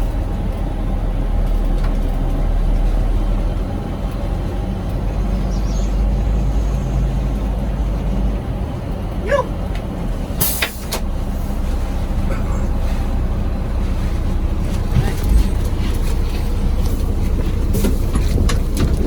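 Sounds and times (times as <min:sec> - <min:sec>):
coach engine and road rumble: 0:00.0 - 0:19.0.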